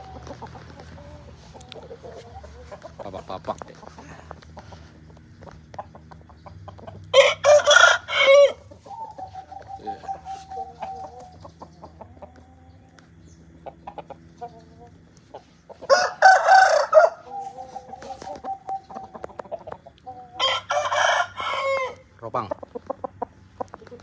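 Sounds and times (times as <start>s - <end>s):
roosters crowing: 0.0s - 24.0s.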